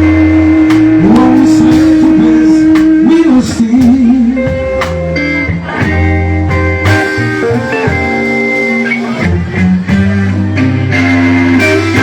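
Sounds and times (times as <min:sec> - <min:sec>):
bass guitar: 0:00.0 - 0:12.0
drums: 0:00.0 - 0:12.0
electric guitar lead: 0:00.0 - 0:12.0.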